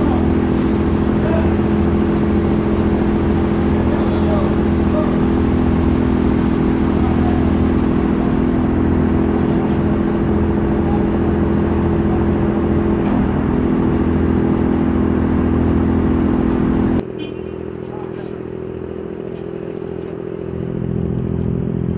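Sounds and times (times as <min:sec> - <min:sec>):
ferry engine humming: 0:00.0 - 0:21.9.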